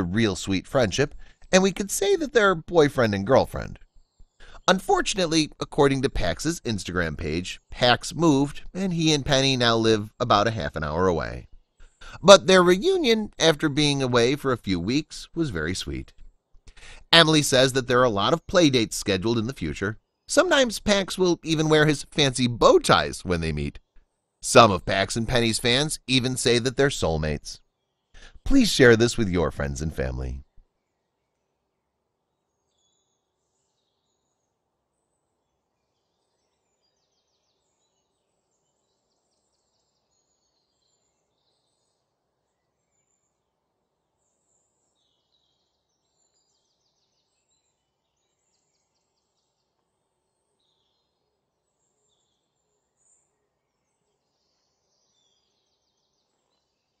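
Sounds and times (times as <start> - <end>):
faint bird chirps and trills: 0.0 - 25.9, 26.5 - 28.5, 30.4 - 57.0.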